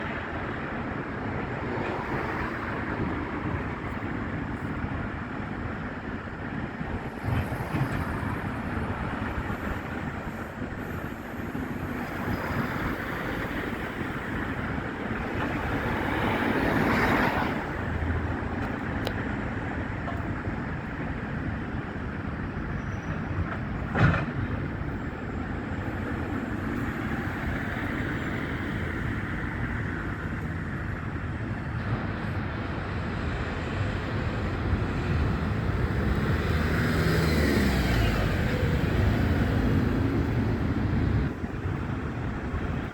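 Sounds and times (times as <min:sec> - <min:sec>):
machinery engines rumbling: 0:00.0 - 0:42.9
wind: 0:00.0 - 0:42.9.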